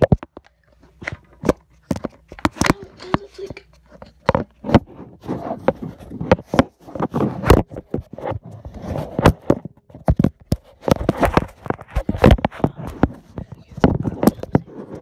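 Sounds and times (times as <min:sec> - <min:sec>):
fingers handling a camera: 0:00.0 - 0:15.0.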